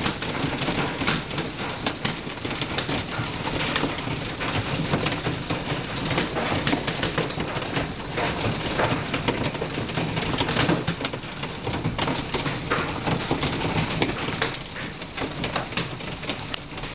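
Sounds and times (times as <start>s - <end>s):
hail and heavy rain pelting: 0.0s - 16.9s.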